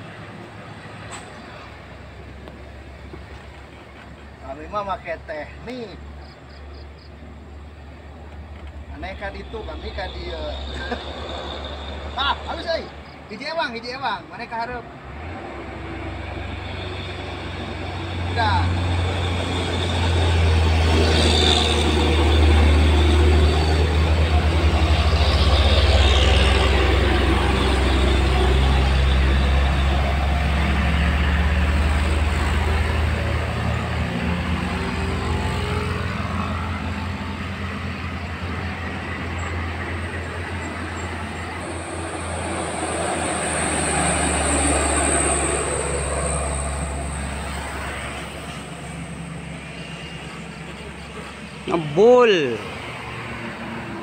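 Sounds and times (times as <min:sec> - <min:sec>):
passing truck engine: 0:00.0 - 0:54.0
truck diesel engine droning: 0:07.7 - 0:13.2, 0:14.8 - 0:54.0.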